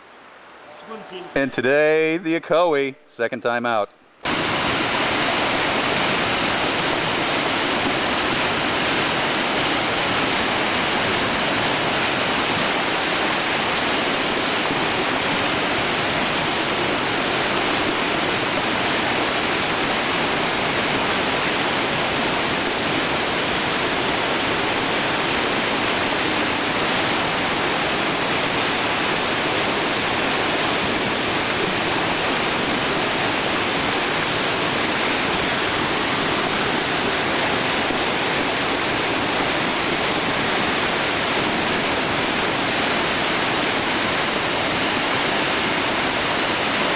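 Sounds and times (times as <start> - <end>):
whitewater rapid rushing: 4.2 - 46.9.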